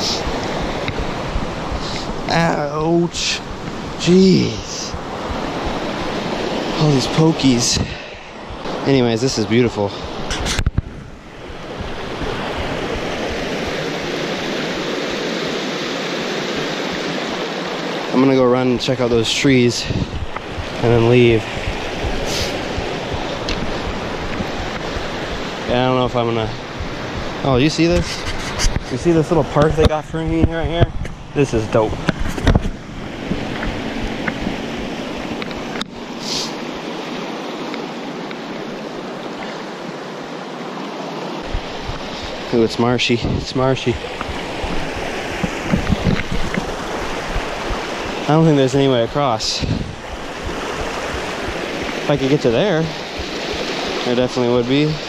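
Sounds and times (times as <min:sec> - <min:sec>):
river rushing over rocks: 0:00.0 - 0:28.0, 0:28.9 - 0:55.0.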